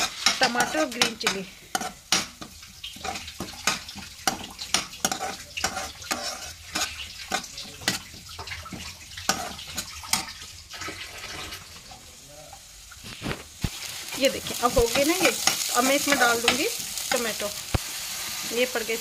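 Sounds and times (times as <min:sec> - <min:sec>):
metal spoon scraping a pan: 0:00.0 - 0:11.6, 0:14.2 - 0:18.9
onions sizzling in oil: 0:00.0 - 0:19.0.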